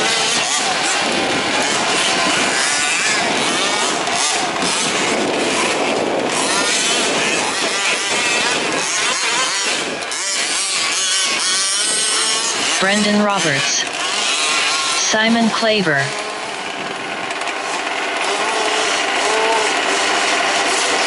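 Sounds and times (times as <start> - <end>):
rc truck engines revving: 0.0 - 21.0.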